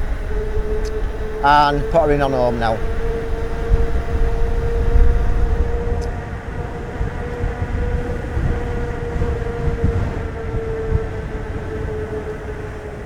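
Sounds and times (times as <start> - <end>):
electric bike motor whining: 0.0 - 13.0
wind rumble on microphone: 0.0 - 13.0.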